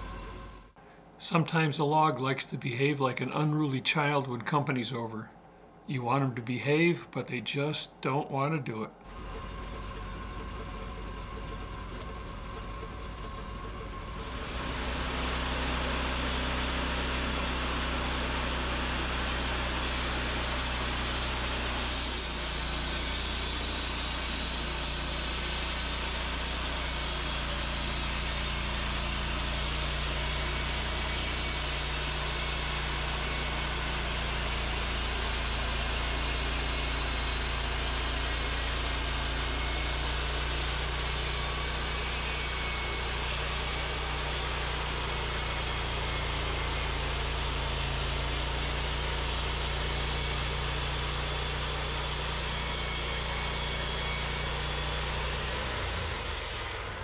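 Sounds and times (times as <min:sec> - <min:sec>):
sawmill engine running: 0:00.0 - 0:00.8, 0:09.0 - 0:57.0.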